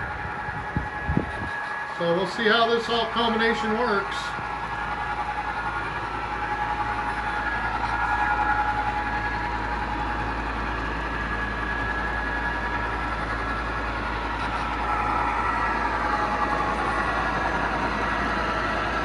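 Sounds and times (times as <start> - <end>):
motor hum: 0.0 - 19.0.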